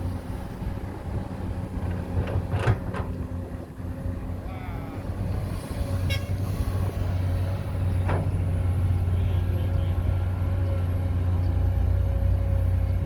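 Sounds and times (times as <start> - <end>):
heavy machinery engine droning: 0.0 - 13.0.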